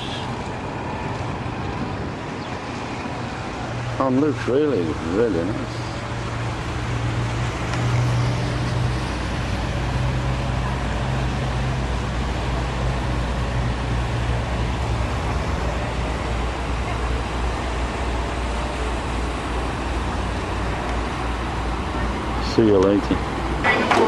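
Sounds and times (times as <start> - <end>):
boat engines droning: 0.0 - 24.0
water noise: 0.0 - 24.0
wind: 0.0 - 24.0.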